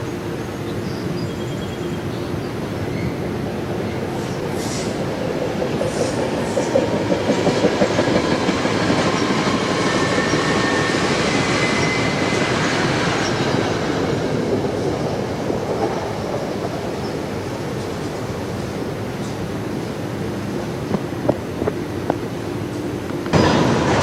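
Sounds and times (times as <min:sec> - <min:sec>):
train wheels on rails: 0:02.5 - 0:24.0.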